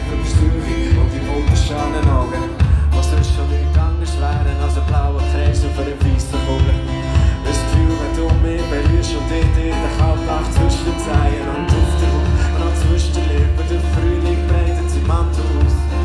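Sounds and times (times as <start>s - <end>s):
heavy bass: 0.0s - 16.0s
live band playing: 0.0s - 16.0s
steady drum beat: 0.0s - 16.0s.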